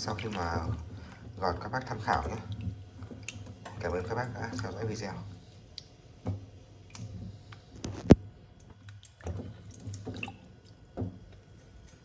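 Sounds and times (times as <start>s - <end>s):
water splashing in metal bowl: 0.0s - 6.0s, 6.8s - 11.3s.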